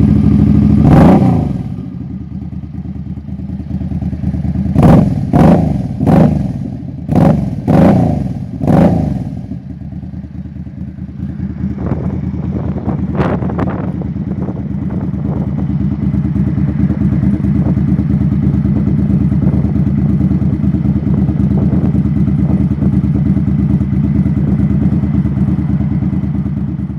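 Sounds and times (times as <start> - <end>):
motorcycle engine blipping and idling: 0.0 - 26.9.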